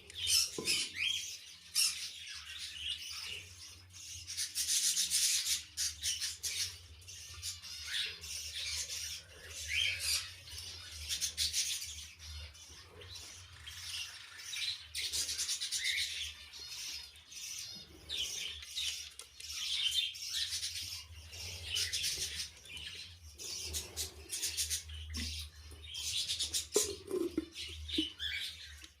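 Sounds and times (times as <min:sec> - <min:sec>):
lovebirds chattering: 0:00.0 - 0:29.0.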